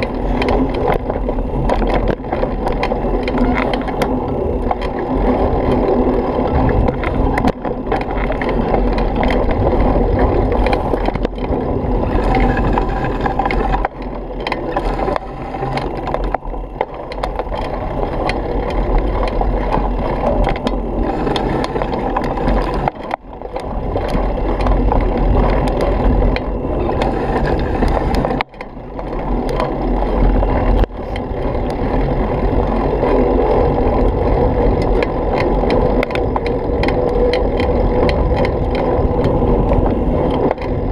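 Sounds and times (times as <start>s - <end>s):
bicycle tyres rumbling on dirt: 0.0s - 40.9s
bike rattling and clicking: 0.0s - 40.9s
wind noise: 0.0s - 40.9s.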